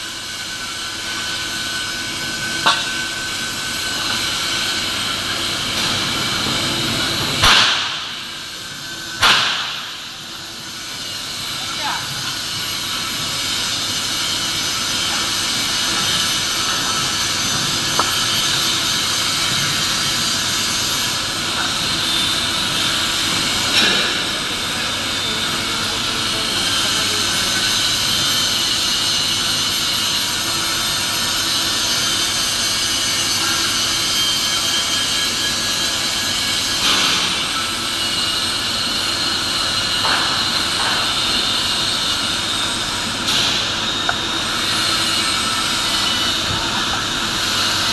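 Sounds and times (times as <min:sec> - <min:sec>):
loud industrial machinery noise: 0:00.0 - 0:47.9.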